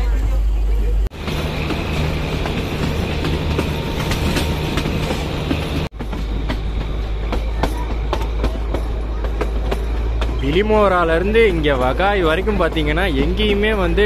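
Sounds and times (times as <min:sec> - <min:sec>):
train rumble: 0:00.0 - 0:14.0
wheels clicking over rail joints: 0:01.1 - 0:14.0.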